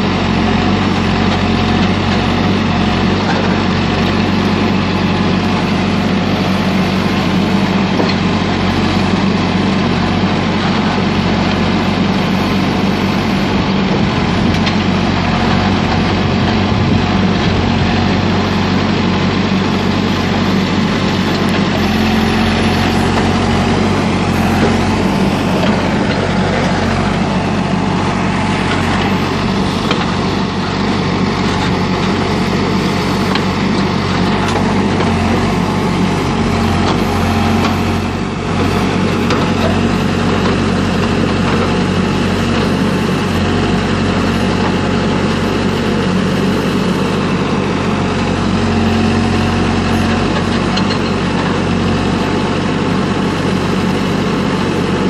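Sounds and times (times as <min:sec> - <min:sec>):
diesel engine under load: 0:00.0 - 0:55.0
backhoe bucket digging soil: 0:00.1 - 0:55.0.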